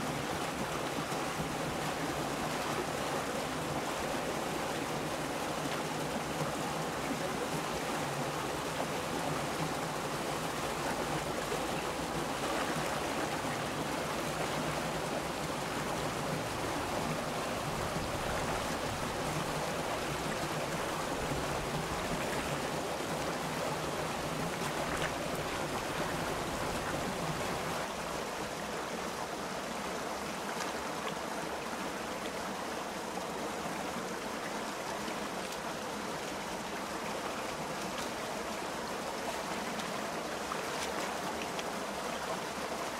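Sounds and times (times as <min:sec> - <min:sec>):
stream water over cascade: 0:00.0 - 0:42.9.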